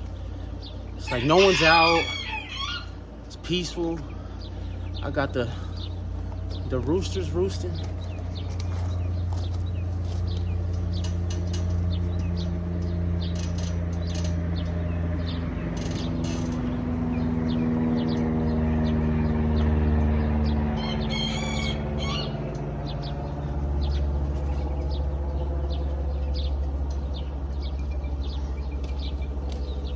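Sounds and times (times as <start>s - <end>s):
birds chirping: 0.0s - 29.9s
low hum with droning tones: 0.0s - 29.9s.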